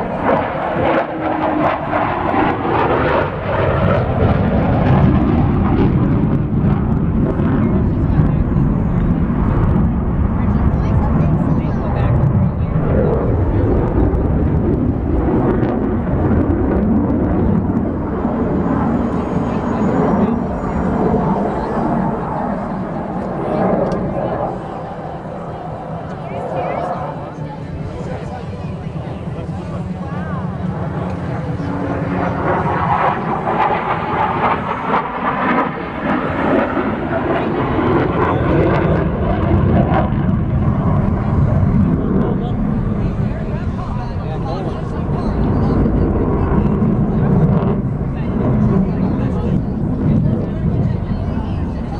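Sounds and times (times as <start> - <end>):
aircraft engine rumble: 0.0 - 51.9
airplane flying past: 0.0 - 51.9.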